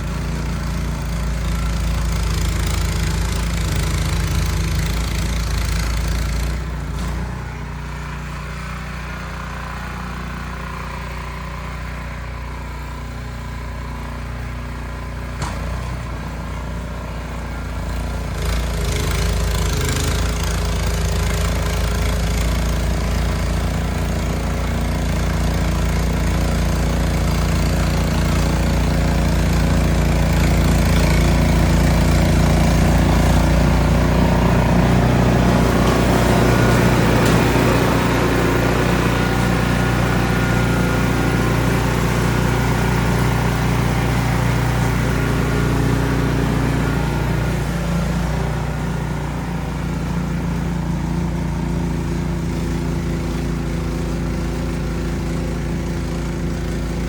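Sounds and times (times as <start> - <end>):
snow blower engine running: 0.0 - 57.0.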